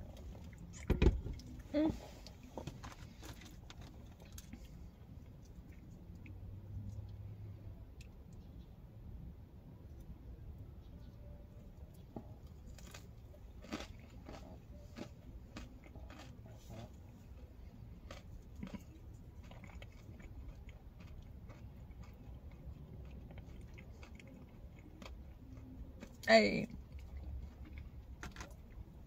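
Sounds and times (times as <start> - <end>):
chewing a biscuit: 0.0 - 8.8, 9.8 - 29.0
low steady rumble: 0.0 - 29.0.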